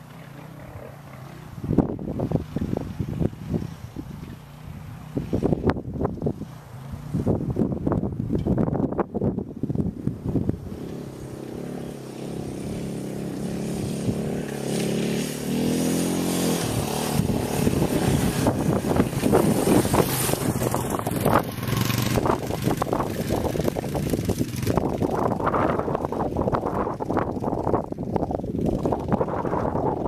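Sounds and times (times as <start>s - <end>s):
dirt bike engine: 0.0s - 30.0s.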